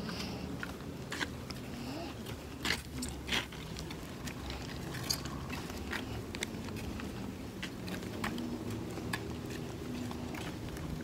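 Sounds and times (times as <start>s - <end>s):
footsteps crunching: 0.0s - 11.0s.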